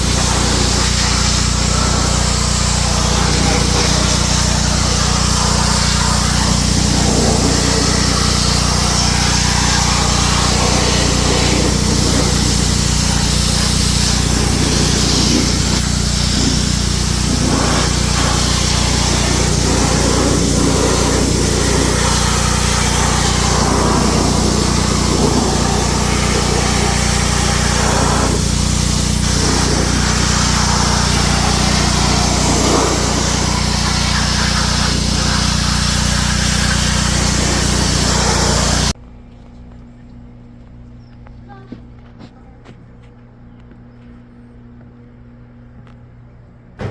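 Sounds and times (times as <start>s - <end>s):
small engine running with whir: 0.0s - 39.0s.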